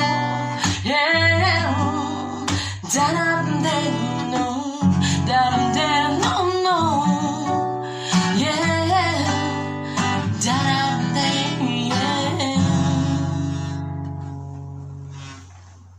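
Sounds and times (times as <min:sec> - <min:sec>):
woman singing wordless lines: 0:00.0 - 0:13.8
acoustic guitar strumming: 0:00.0 - 0:15.8.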